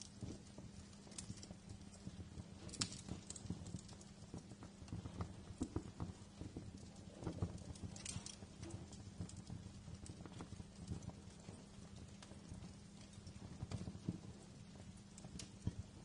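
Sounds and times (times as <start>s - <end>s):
low fire rumble: 0.0s - 16.0s
wood fire crackling and popping: 0.0s - 16.0s.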